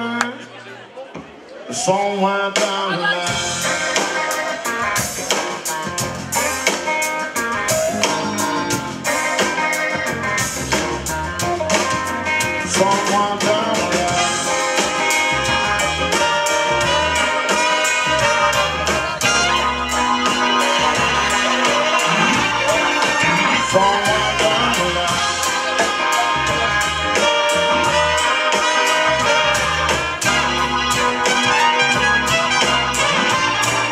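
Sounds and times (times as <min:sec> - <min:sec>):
live blues band playing: 0:01.9 - 0:33.9
saxophone and trumpet: 0:02.8 - 0:33.9
drum beat: 0:03.3 - 0:33.9.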